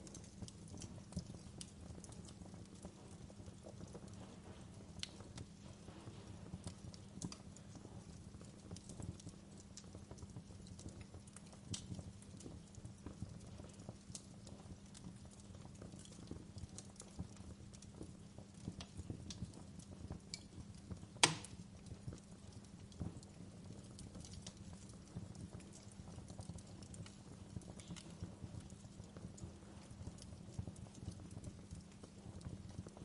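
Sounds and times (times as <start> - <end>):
low steady hum: 0.0 - 33.0
wood fire crackling: 0.0 - 33.0.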